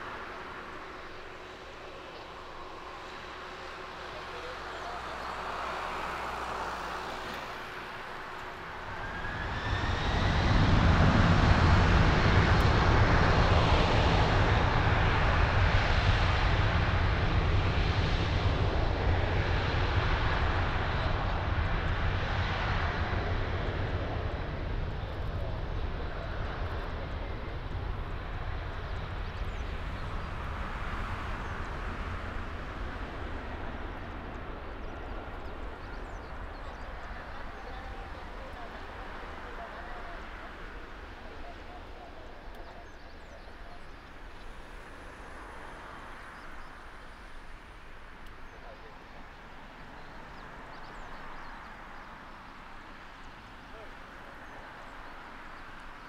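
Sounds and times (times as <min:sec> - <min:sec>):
jet engines spooling up: 0:00.0 - 0:54.2.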